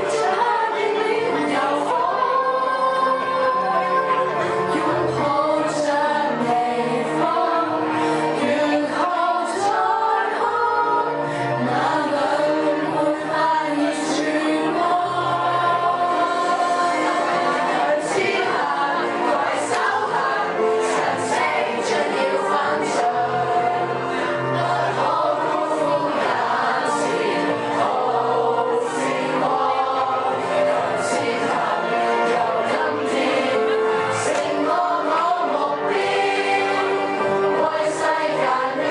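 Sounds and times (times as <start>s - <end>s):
girls singing together: 0.0s - 38.9s
musical accompaniment with bass: 0.0s - 38.9s.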